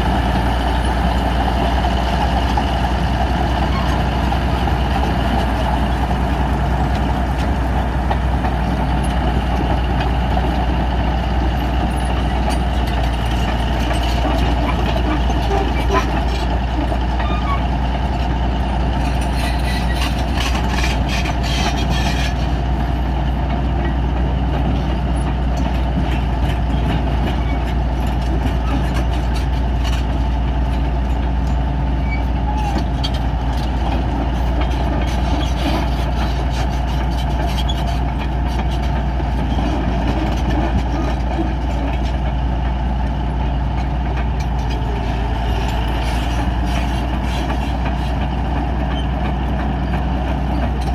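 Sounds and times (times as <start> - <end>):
bulldozer engine running: 0.0 - 50.9.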